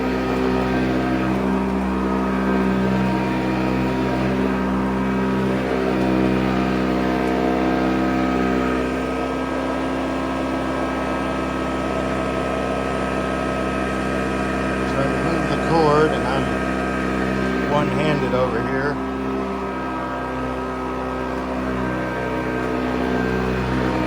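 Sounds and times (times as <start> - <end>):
upright vacuum cleaner running: 0.0 - 24.0.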